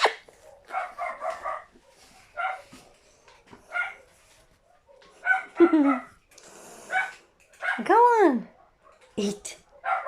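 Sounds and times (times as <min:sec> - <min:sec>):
dog barking: 0:00.0 - 0:06.2, 0:06.9 - 0:10.0.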